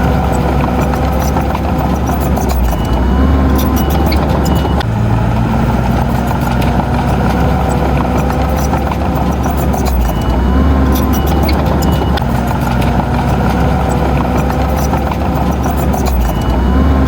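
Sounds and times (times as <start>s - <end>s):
sharp metallic clicks: 0.0s - 4.9s, 5.7s - 17.0s
diesel engine of heavy machinery: 0.0s - 17.0s.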